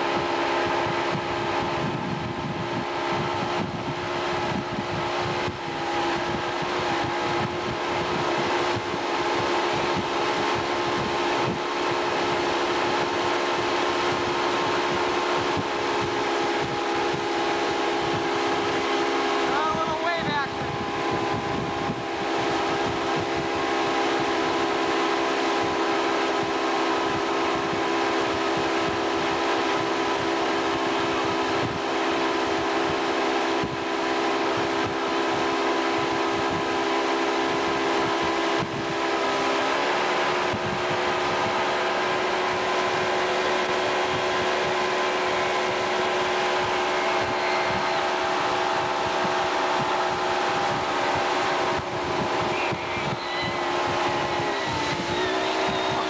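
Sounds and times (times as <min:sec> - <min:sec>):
motorboat engine droning: 0:00.0 - 0:56.0
wind and water rushing: 0:00.0 - 0:56.0.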